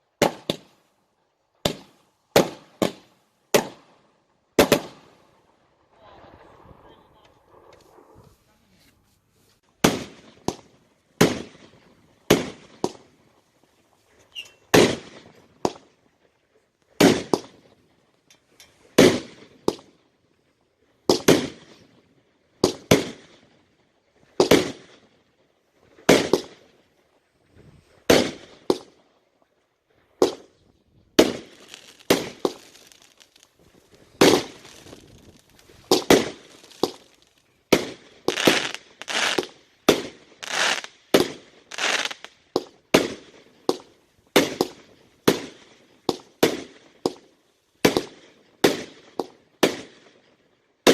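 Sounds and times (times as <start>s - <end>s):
fireworks bangs: 0.0s - 0.8s, 1.6s - 8.6s, 9.8s - 13.5s, 14.3s - 16.1s, 16.9s - 17.9s, 18.8s - 20.0s, 21.0s - 22.0s, 22.6s - 23.5s, 24.2s - 25.2s, 25.8s - 26.8s, 27.5s - 29.0s, 30.2s - 50.9s.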